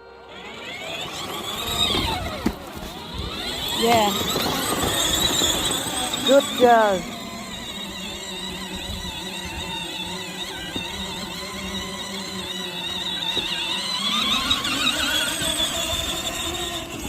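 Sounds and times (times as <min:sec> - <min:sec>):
electric toy car motor whine: 0:00.0 - 0:17.0.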